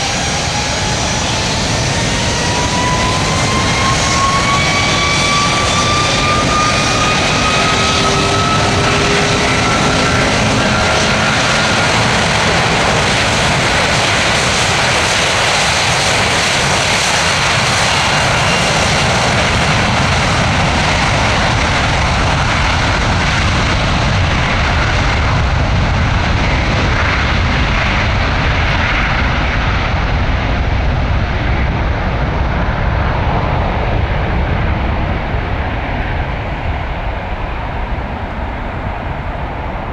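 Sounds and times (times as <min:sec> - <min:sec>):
jet engine whine: 0:00.0 - 0:39.9
jet engines roaring: 0:00.0 - 0:39.9.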